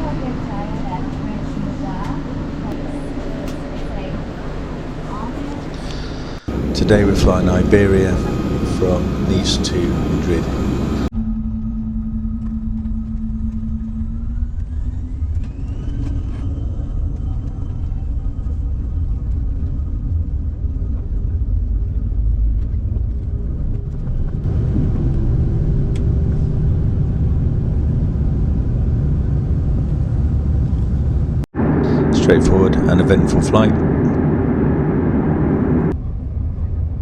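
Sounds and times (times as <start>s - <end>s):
airliner cabin rumble: 0.0s - 37.0s
jet engine whine: 0.0s - 37.0s.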